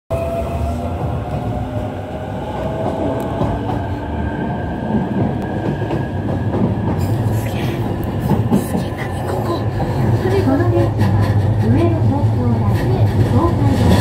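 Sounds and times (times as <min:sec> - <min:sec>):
train wheels rumbling: 0:00.1 - 0:14.0.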